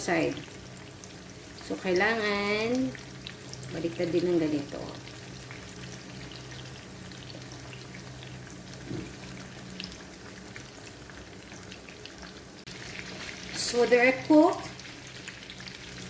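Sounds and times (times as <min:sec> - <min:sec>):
chicken sizzling in frying oil: 0:00.0 - 0:16.0.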